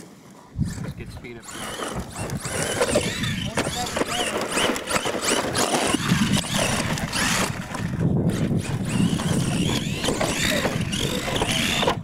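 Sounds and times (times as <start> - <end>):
tyres on dirt: 0.0 - 12.0
toy truck motor whine: 0.6 - 12.0.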